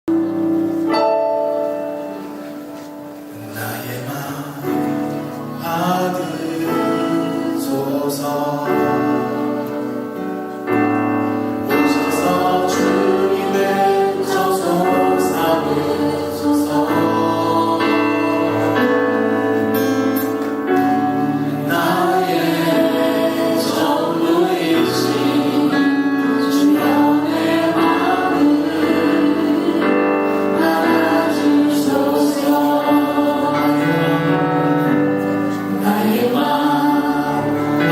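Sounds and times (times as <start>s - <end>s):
choir singing held notes: 0.1s - 37.9s.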